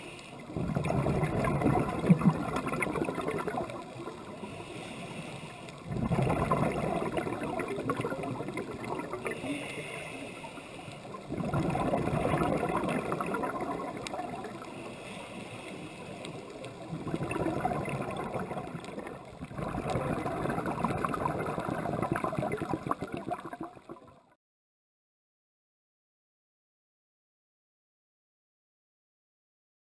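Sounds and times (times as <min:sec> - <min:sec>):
underwater exhaust bubbles gurgling: 0:00.0 - 0:24.4.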